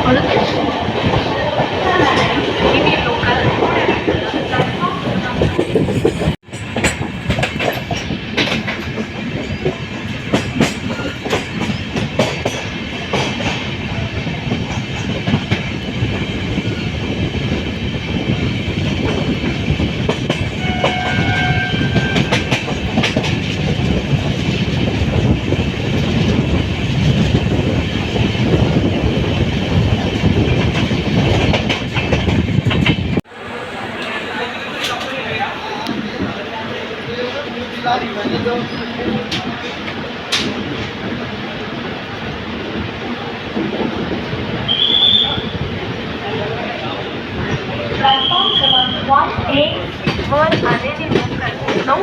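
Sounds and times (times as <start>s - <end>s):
train wheels on rails: 0.0s - 52.0s.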